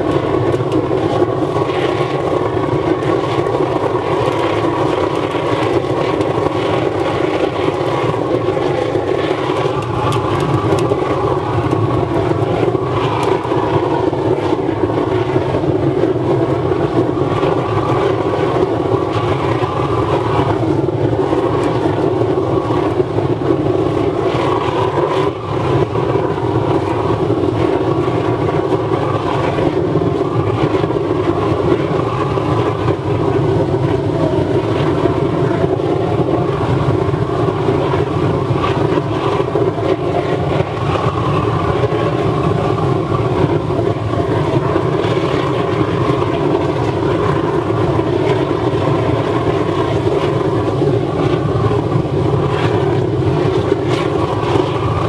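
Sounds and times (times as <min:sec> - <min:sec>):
oil burner flame rushing: 0:00.0 - 0:55.0.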